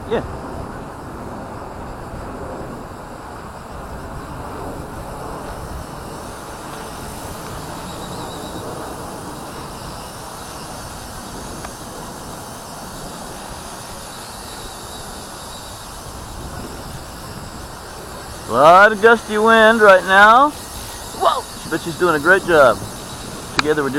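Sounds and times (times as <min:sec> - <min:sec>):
faint high whine: 0:00.0 - 0:23.9
gusty wind on microphone: 0:00.0 - 0:23.9.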